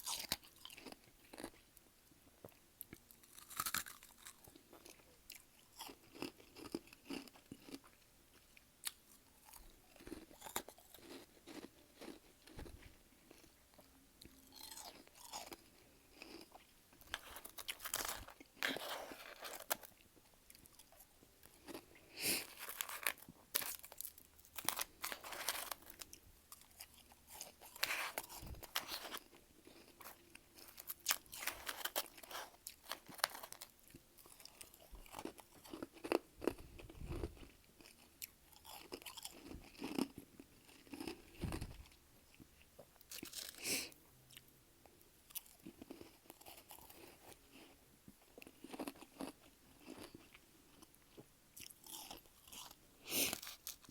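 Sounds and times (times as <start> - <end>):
chewing and crunching frost: 0.0 - 1.8, 2.4 - 53.9.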